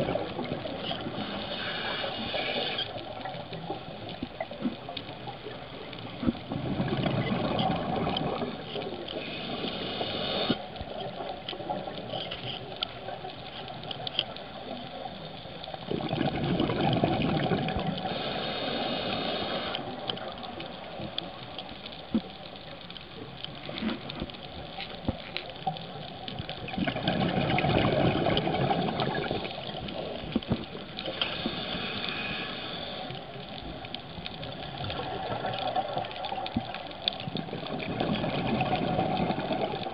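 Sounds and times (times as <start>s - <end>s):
exhaled bubbles underwater: 0.0s - 12.2s, 14.3s - 22.6s, 23.5s - 39.9s
water noise: 0.0s - 39.9s
small clicks: 0.1s - 16.0s, 17.7s - 27.2s, 28.3s - 39.9s.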